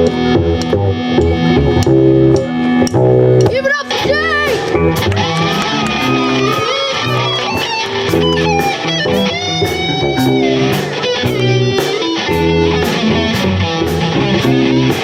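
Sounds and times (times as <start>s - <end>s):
bass line: 0.0s - 15.0s
electric guitar bending notes: 0.0s - 15.0s
drums and cymbals beat: 1.2s - 15.0s.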